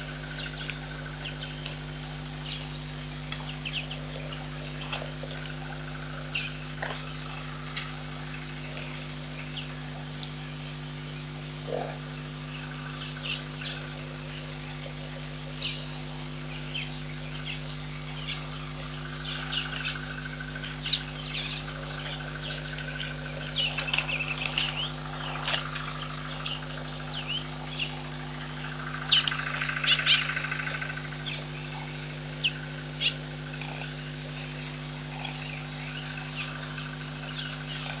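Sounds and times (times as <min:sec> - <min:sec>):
steady low hum: 0:00.0 - 0:38.0
birds chirping and calling: 0:02.4 - 0:08.0, 0:08.7 - 0:38.0.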